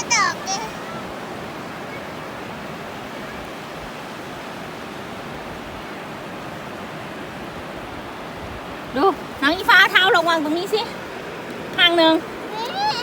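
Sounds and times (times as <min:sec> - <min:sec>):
sea surf washing onto beach: 0:00.0 - 0:13.0.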